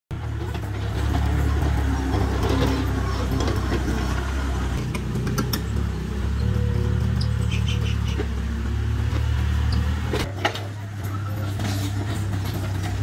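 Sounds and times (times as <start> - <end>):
excavator diesel engine running: 0.1 - 13.0.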